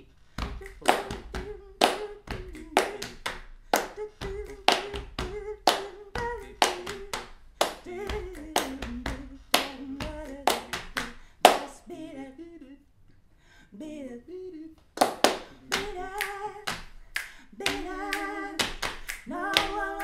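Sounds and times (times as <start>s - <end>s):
person singing: 0.0s - 11.1s, 13.7s - 20.0s
body percussion claps and slaps: 0.4s - 11.8s, 15.0s - 20.0s.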